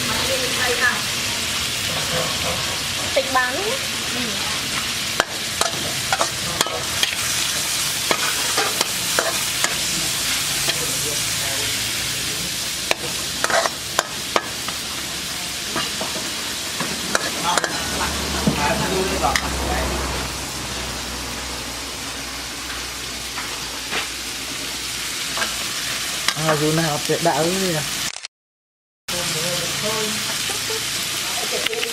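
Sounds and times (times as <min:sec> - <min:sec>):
food sizzling in a pan: 0:00.0 - 0:28.1, 0:29.1 - 0:31.9.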